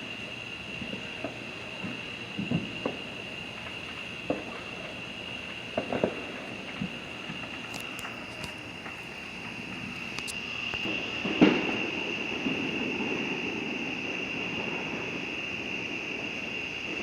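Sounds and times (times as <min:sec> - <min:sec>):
steady high-pitched whine: 0:00.0 - 0:17.0
firework bang: 0:00.8 - 0:17.0.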